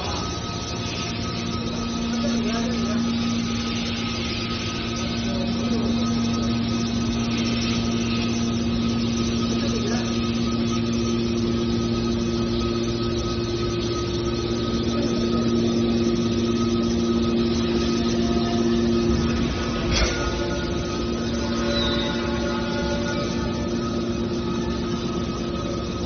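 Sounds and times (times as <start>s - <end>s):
hydraulic pump motor humming: 0.0s - 26.0s.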